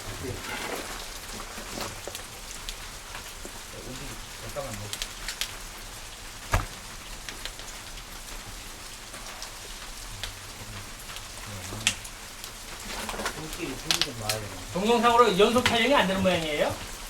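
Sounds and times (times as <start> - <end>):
fire crackling and popping: 0.0 - 17.0
fire hissing in a kiln: 0.0 - 17.0.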